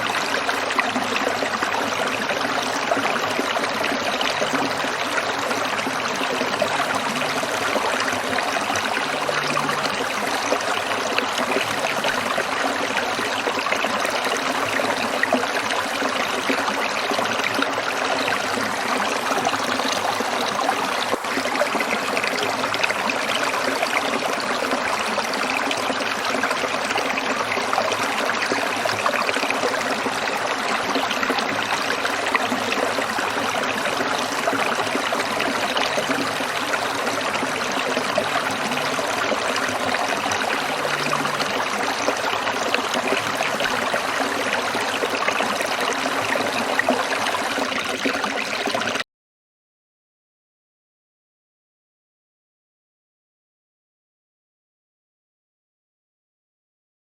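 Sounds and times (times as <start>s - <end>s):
stream trickling over stones: 0.0s - 49.0s.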